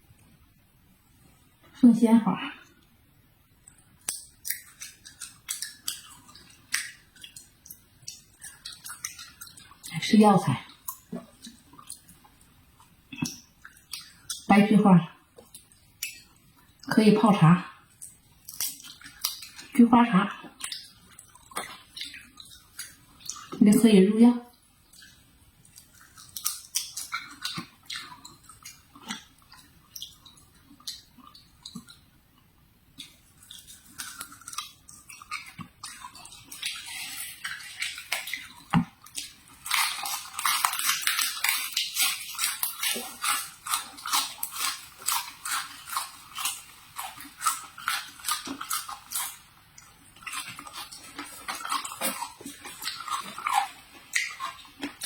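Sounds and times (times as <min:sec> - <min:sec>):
crunching and chewing pear: 0:03.6 - 0:14.5, 0:17.9 - 0:23.6, 0:24.8 - 0:55.0.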